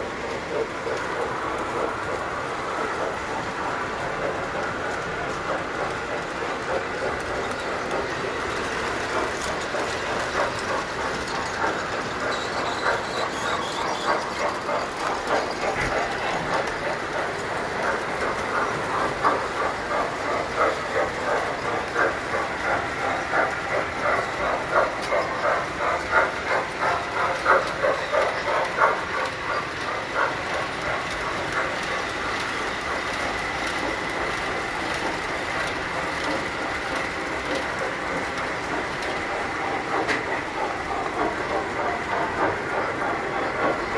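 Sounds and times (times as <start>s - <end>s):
toy train wheels clattering on track: 0.0s - 43.9s.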